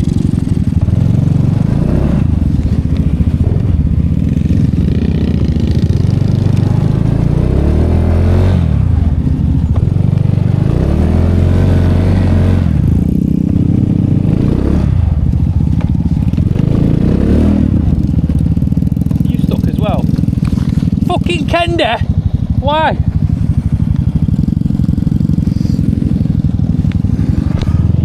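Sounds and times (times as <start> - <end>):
small motorcycle engine revving: 0.0 - 28.0.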